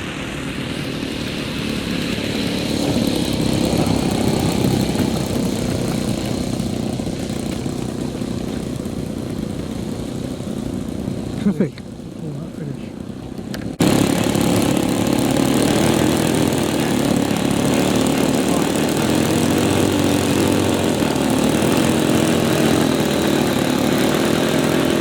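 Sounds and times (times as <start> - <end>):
model aircraft engine running: 0.0 - 25.0.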